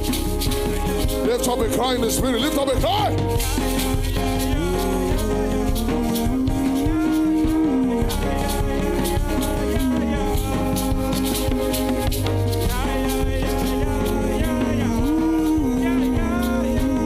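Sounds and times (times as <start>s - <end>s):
deep bass: 0.0s - 17.0s
faint shaker rhythm: 0.0s - 17.0s.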